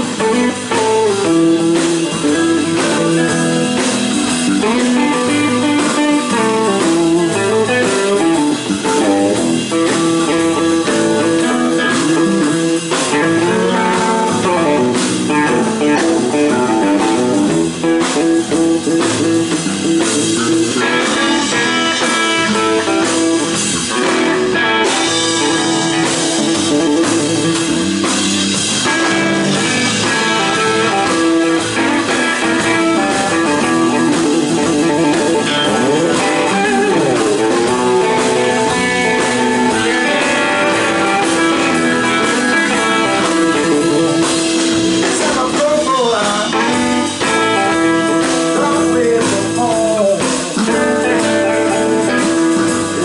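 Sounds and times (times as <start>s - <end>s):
blues electric guitar: 0.0s - 53.0s
drum kit: 0.0s - 53.0s.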